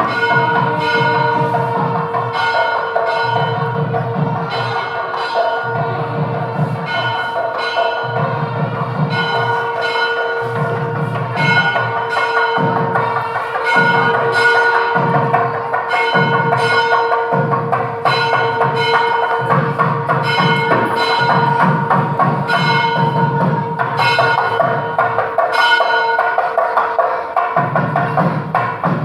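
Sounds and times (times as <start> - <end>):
low drum pattern: 0.0 - 25.7
ringing bell-like tones: 0.0 - 28.7.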